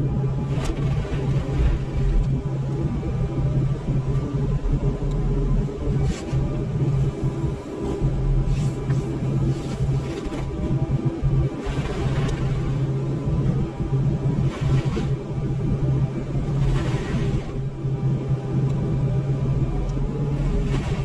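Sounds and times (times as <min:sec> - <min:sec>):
excavator diesel drone: 0:00.0 - 0:21.0.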